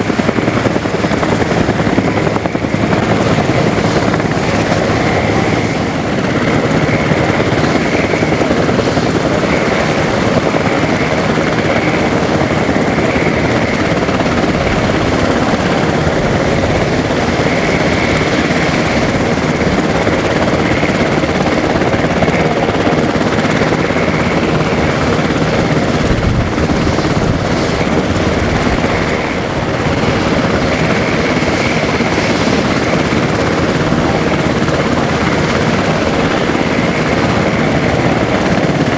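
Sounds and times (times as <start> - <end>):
helicopter rotor and engine: 0.0 - 38.9
high turbine whine: 0.0 - 38.9.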